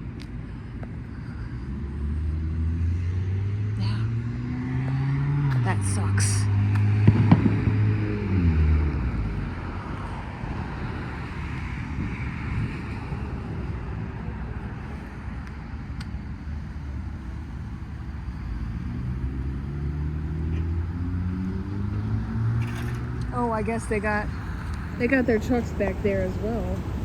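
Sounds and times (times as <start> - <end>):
car engine: 0.0 - 27.0
tyre noise on road: 0.0 - 27.0.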